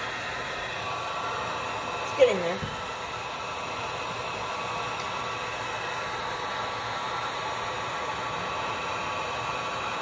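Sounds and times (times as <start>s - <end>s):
heat gun blowing: 0.0s - 10.0s.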